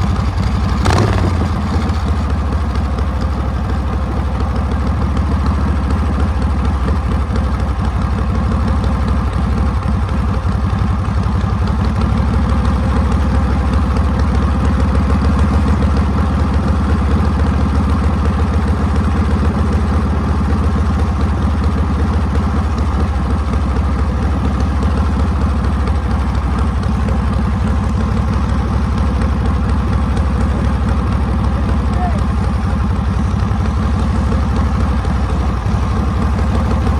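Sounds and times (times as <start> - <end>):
motorcycle engine pulsing exhaust: 0.0 - 36.9.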